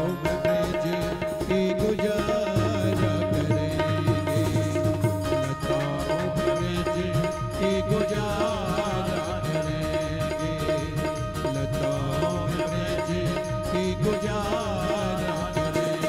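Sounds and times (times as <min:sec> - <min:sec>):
hand drum rhythm: 0:00.0 - 0:16.0
harmonium and keyboard melody: 0:00.0 - 0:16.0.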